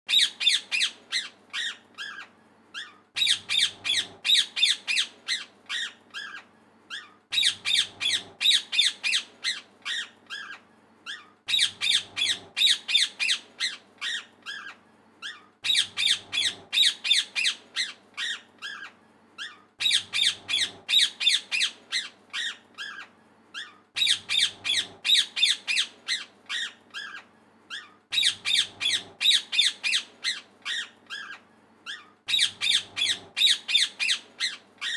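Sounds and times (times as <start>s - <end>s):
parrot chirping and squawking: 0.1s - 34.9s.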